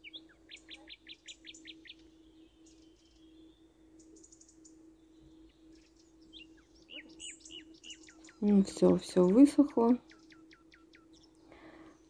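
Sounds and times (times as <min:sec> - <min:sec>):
small bird chirping: 0:00.0 - 0:12.0
steady low hum: 0:00.0 - 0:12.0.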